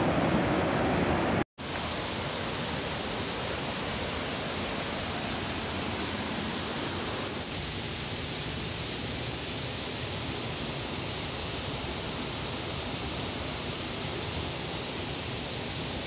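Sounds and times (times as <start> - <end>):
creek rushing over boulders: 0.0 - 16.0.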